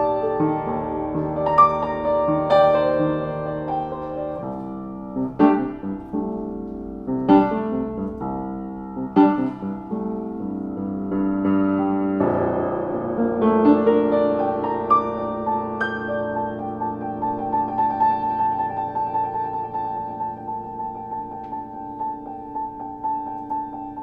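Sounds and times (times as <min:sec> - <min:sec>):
upright piano playing: 0:00.0 - 0:24.0.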